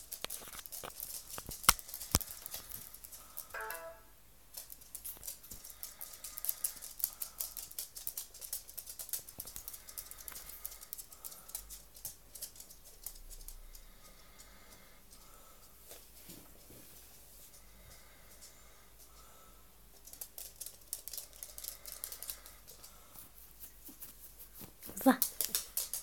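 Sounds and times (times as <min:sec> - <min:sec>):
dog claws clicking on floor: 0:00.0 - 0:03.6, 0:04.5 - 0:16.1, 0:17.5 - 0:26.0.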